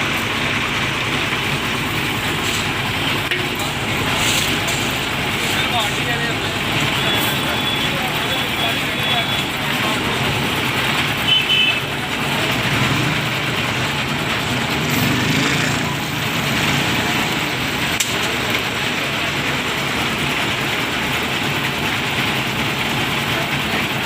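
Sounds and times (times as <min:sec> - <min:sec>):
concrete mixer running: 0:00.0 - 0:24.0.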